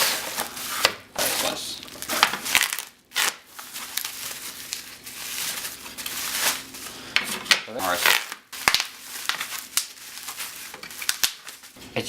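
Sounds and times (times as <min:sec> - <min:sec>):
packaging crinkling: 0:00.0 - 0:11.8.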